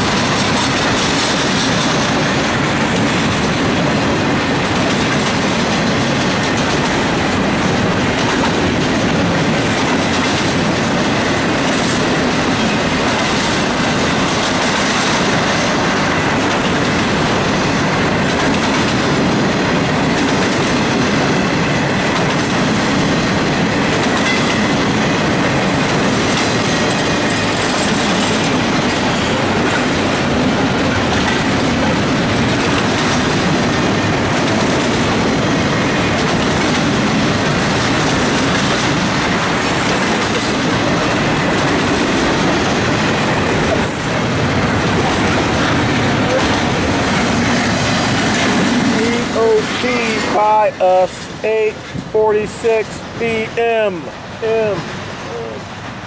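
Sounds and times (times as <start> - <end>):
train wheels rolling on track: 0.0 - 56.0.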